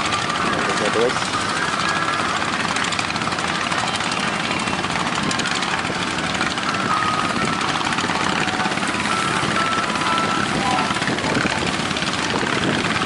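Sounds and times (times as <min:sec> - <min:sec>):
boat engine running: 0:00.0 - 0:13.0
waves: 0:00.0 - 0:13.0
wind: 0:00.0 - 0:13.0.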